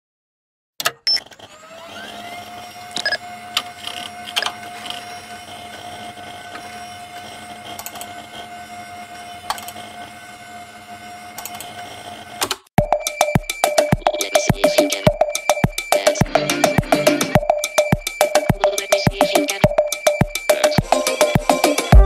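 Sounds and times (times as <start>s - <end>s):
electronic computer hum: 2.1s - 22.0s.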